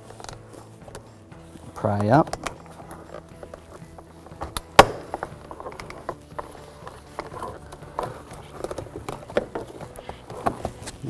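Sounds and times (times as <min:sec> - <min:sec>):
plastic trim clicking and creaking: 0:02.0 - 0:11.0.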